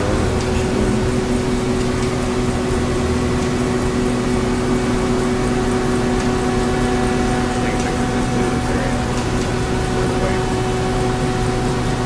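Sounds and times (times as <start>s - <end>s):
constant rushing drone: 0.0s - 12.0s
electrical hum of machinery: 0.0s - 12.0s.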